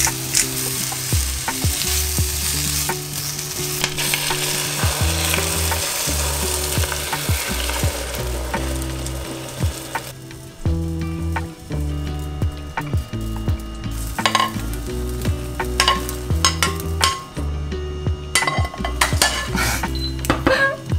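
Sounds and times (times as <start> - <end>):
onions sizzling in oil: 0.0 - 17.6, 18.2 - 20.9
low steady tones changing pitch: 3.5 - 20.3.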